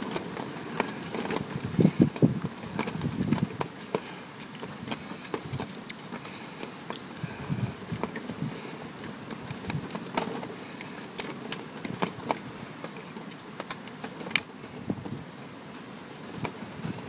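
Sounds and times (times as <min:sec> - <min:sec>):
gravel clicking against pan: 0:00.0 - 0:14.6.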